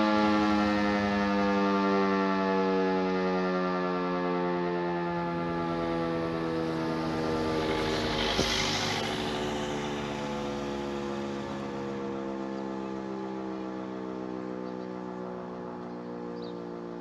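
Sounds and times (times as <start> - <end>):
civil defense siren wailing: 0.0 - 17.0.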